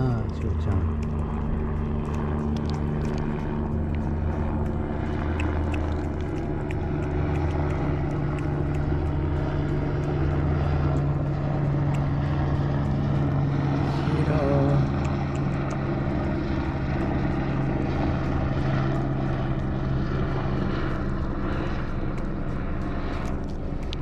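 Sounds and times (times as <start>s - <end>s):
helicopter flying overhead: 0.0s - 24.0s.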